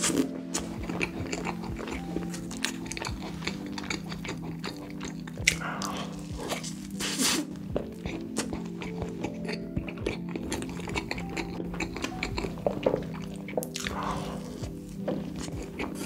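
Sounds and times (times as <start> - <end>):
background music: 0.0 - 16.0
person chewing cake: 0.0 - 16.0.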